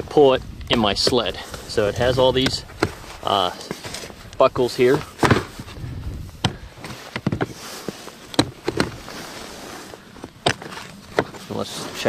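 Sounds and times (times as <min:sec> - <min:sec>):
handling rustle: 0:00.0 - 0:12.0.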